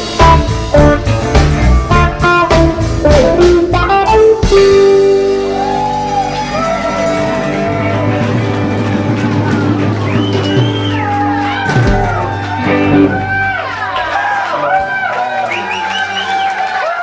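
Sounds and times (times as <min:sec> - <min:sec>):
electric guitar lead: 0:00.0 - 0:16.1
bass guitar: 0:00.0 - 0:16.4
drums: 0:00.0 - 0:16.6.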